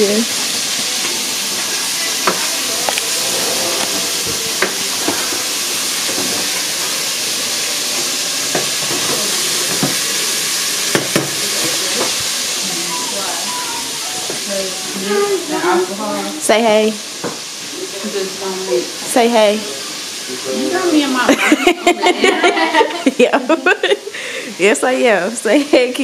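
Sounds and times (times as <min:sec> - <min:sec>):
food cooking hiss: 0:00.0 - 0:26.0.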